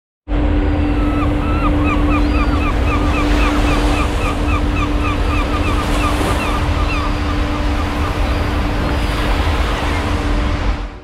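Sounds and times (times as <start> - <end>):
propeller wake churning: 0.3 - 11.0.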